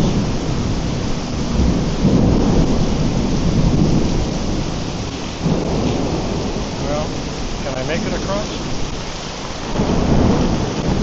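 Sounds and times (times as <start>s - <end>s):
heavy rain drumming on umbrella: 0.0s - 11.0s.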